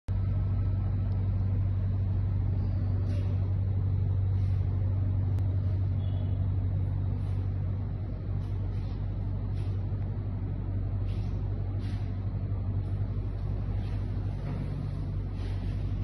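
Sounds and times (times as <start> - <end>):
low steady hum: 0.1 - 16.0.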